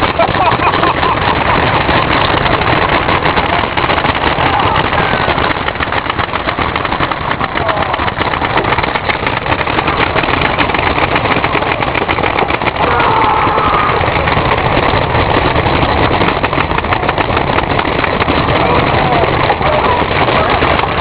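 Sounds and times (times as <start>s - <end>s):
paintball markers firing: 0.0s - 21.0s.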